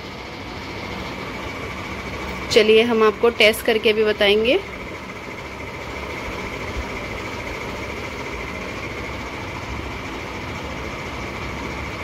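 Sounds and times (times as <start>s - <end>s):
mechanical hum with whine: 0.0s - 12.0s.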